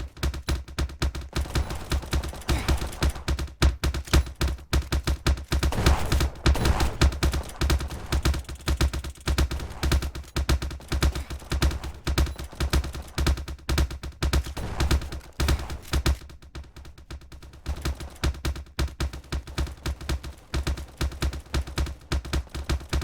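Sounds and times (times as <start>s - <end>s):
rapid sharp cracks with low thuds: 0.0s - 23.0s.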